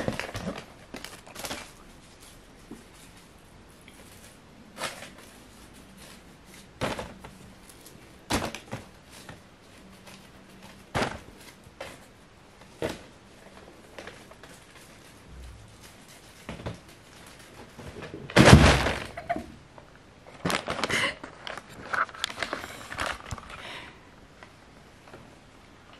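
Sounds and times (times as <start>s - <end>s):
plastic packaging crinkling: 0.0s - 19.3s, 20.2s - 23.7s.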